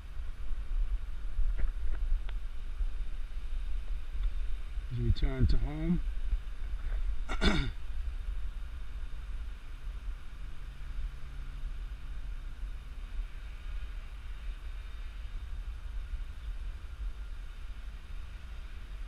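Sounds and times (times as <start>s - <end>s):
faint drone hum overhead: 0.0s - 19.0s
wind rumbling on microphone: 0.0s - 19.0s.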